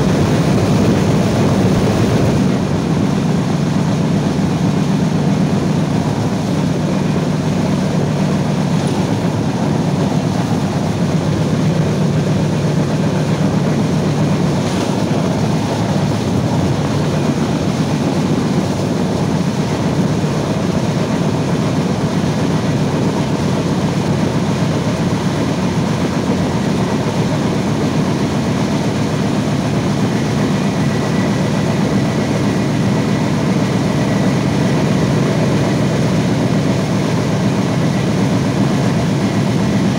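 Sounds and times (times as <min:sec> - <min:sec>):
train coach rumbling over rails: 0:00.0 - 0:39.9.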